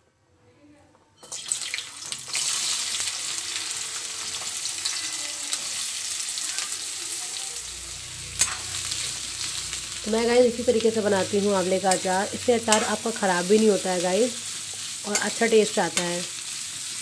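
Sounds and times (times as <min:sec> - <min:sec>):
food sizzling in hot oil: 0:01.2 - 0:17.0.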